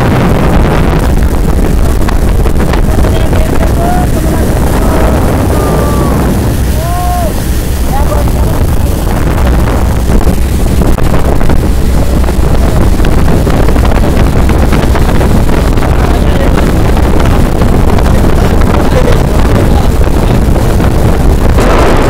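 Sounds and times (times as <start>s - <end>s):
motorboat engine running: 0.0s - 22.0s
water rushing past hull: 0.0s - 22.0s
wind buffeting microphone: 0.0s - 22.0s.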